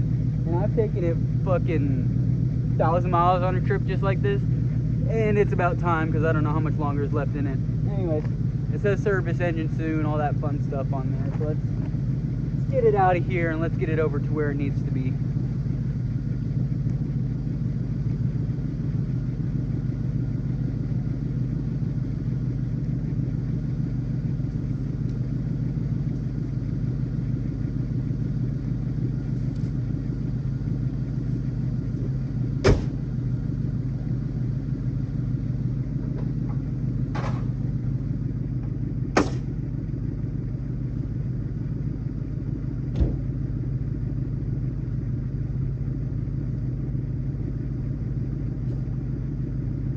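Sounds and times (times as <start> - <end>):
car engine rumbling: 0.0 - 49.9.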